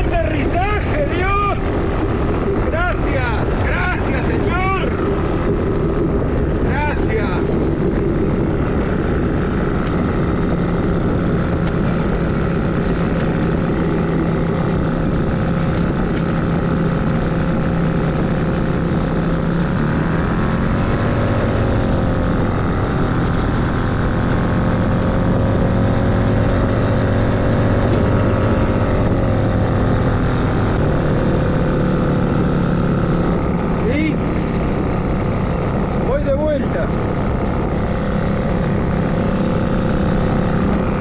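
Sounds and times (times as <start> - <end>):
ultralight engine and propeller droning: 0.0 - 41.0.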